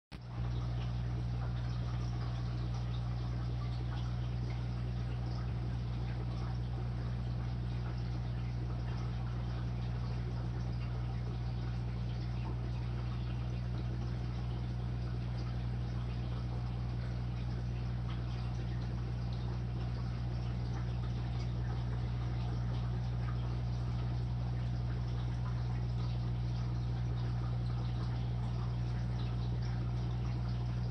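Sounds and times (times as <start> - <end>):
bubbles fizzing: 0.2 - 30.9
filter motor hum: 0.2 - 30.9
tiny drip-like ticks: 0.2 - 30.9
water trickling: 0.2 - 30.9.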